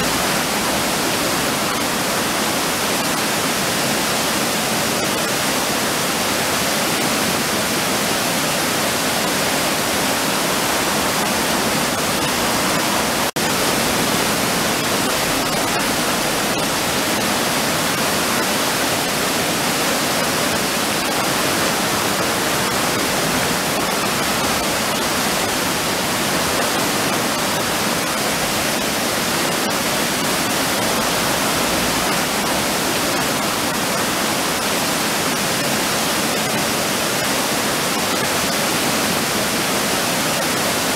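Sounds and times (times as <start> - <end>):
river water rushing over weir: 0.0 - 40.9.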